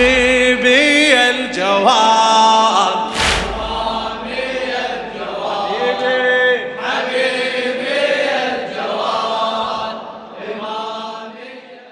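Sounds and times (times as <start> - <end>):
men chanting a lament: 0.0 - 11.9.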